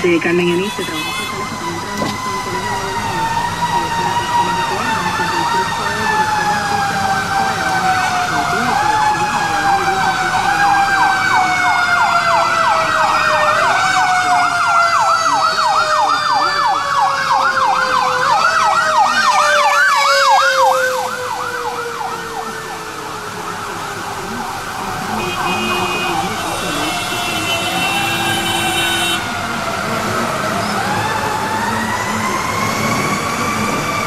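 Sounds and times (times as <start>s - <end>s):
siren tone gliding downward: 0.0s - 34.0s
siren yelping: 0.0s - 34.0s.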